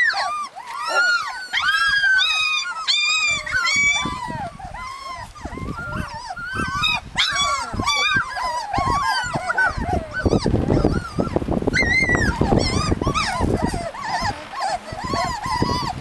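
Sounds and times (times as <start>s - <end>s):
puppies whimpering and squealing: 0.0s - 16.0s.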